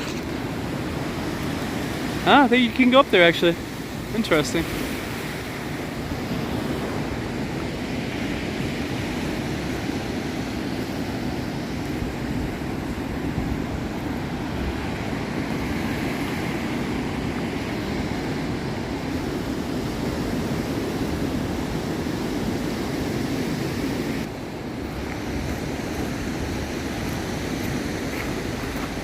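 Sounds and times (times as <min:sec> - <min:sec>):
ocean surf washing on beach: 0:00.0 - 0:29.0
wind on microphone: 0:03.8 - 0:29.0.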